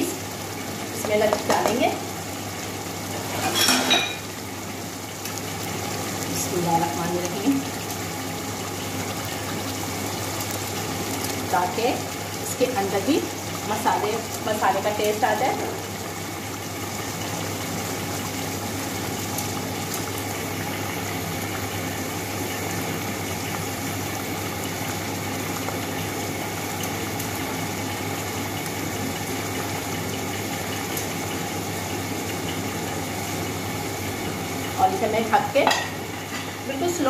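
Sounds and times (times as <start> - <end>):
gravy bubbling in a wok: 0.0 - 37.0.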